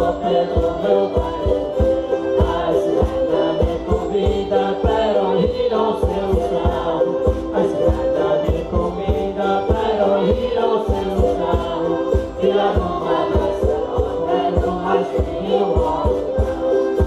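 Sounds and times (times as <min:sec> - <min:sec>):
drum steady beat: 0:00.0 - 0:17.0
group singing folk music: 0:00.0 - 0:17.0.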